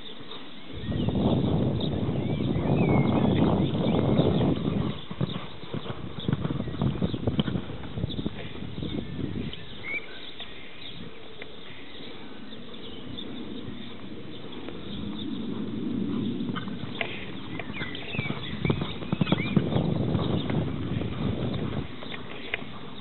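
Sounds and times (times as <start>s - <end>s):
horse hooves thudding on sand: 1.2s - 11.8s, 12.7s - 23.0s.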